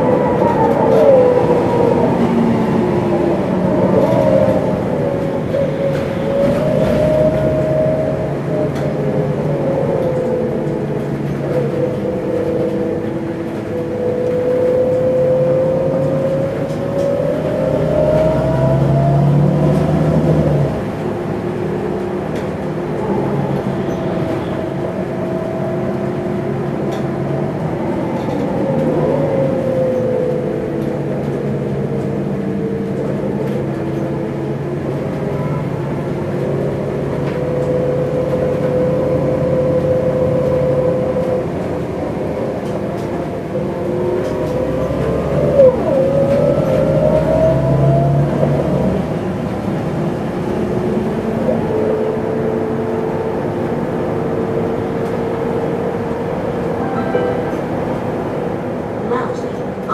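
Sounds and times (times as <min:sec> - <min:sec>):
bus engine and gearbox whining: 0:00.0 - 0:59.9.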